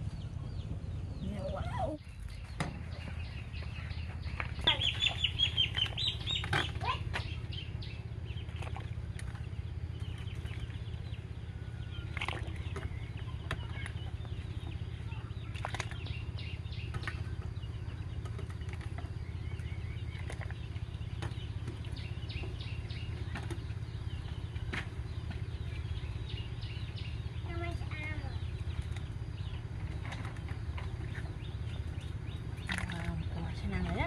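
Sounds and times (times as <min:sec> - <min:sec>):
water boiling rumble: 0:00.0 - 0:34.0.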